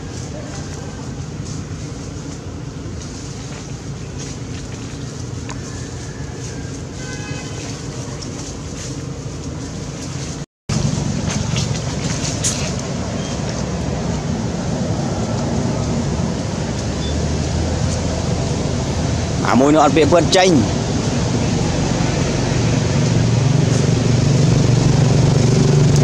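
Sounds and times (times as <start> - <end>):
low rumbling outdoor noise: 0.0 - 26.0.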